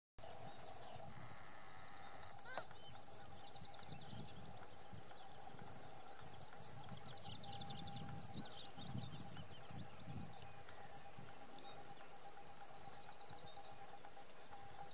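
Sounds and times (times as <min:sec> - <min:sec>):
bird trills: 0:00.2 - 0:14.9
birds chirping: 0:00.2 - 0:14.9.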